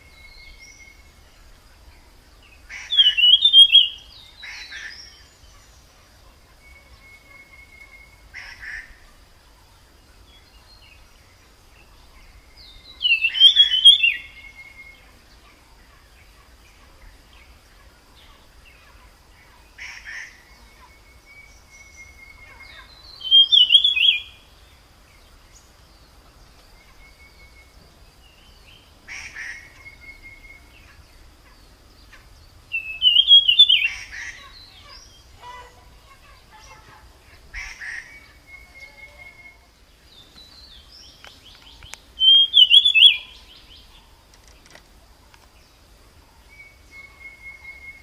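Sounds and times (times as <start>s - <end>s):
thin whistled bird notes: 0.0s - 9.1s, 10.2s - 35.7s, 37.8s - 45.6s, 46.2s - 48.0s
songbird warbling phrase: 0.0s - 24.8s, 26.8s - 44.1s.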